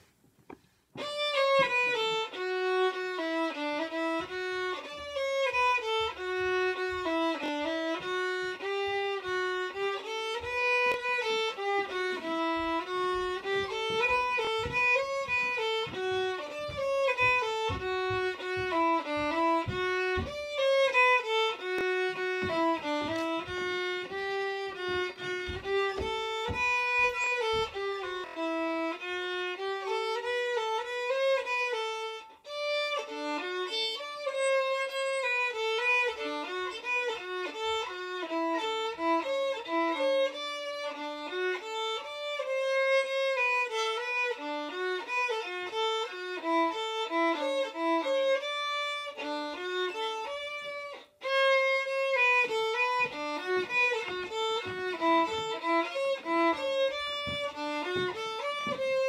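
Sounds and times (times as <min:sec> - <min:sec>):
solo fiddle playing a waltz: 0:00.0 - 0:59.0.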